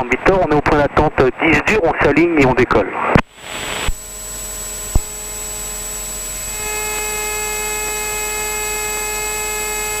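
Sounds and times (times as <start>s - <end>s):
electrical hum and whine: 0.0s - 10.0s.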